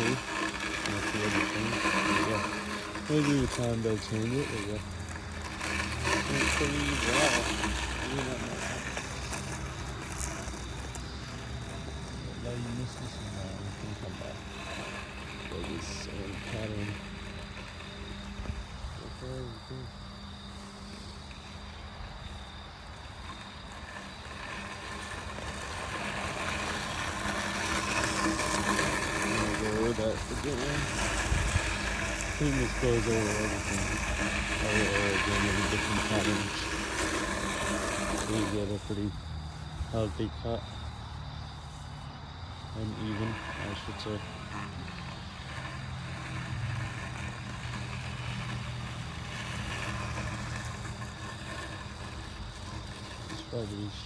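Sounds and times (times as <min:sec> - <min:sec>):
robotic lawnmower cutting grass: 0:00.0 - 0:54.0.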